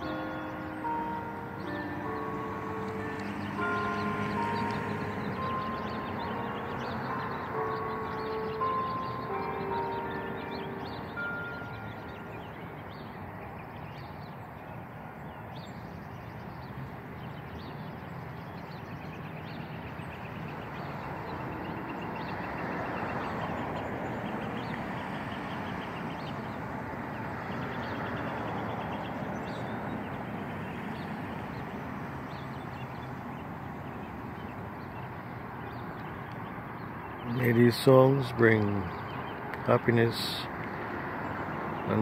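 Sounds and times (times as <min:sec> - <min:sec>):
road traffic passing: 0:00.0 - 0:42.0
small birds chirping: 0:00.0 - 0:42.0.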